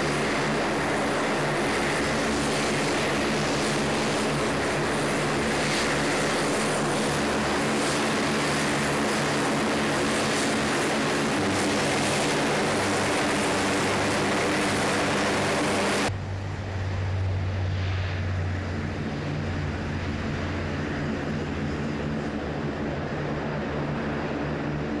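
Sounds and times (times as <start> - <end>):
propeller engine hum: 0.0 - 25.0.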